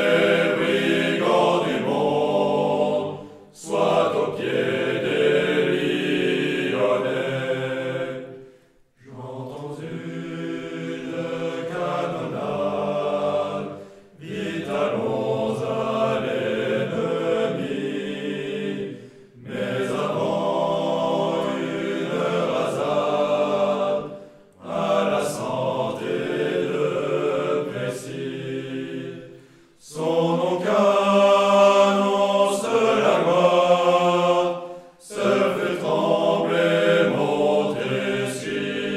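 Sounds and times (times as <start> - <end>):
choir singing a military song: 0.0 - 38.9.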